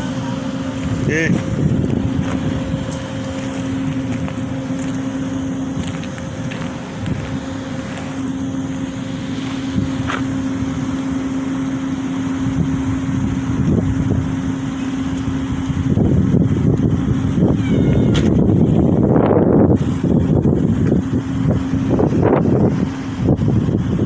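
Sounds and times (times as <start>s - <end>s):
low rumble: 0.0s - 24.0s
vehicle engine humming: 0.0s - 24.0s.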